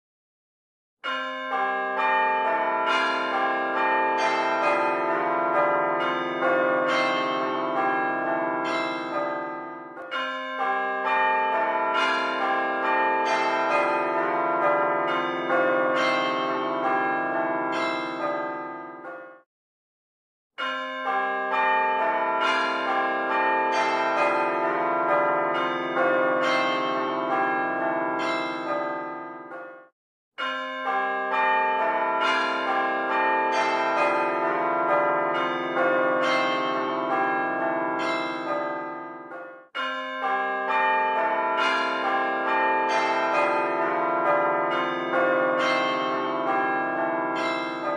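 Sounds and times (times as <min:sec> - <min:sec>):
bells ringing: 0:01.0 - 0:19.2, 0:20.6 - 0:29.7, 0:30.4 - 0:47.9.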